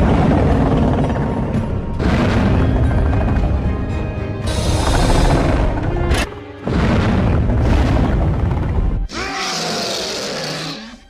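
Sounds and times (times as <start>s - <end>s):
film music: 0.0s - 11.0s.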